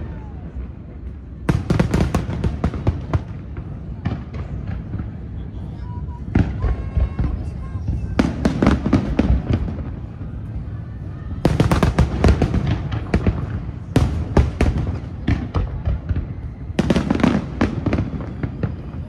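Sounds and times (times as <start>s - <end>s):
fireworks cracks and bangs: 0.0s - 19.0s.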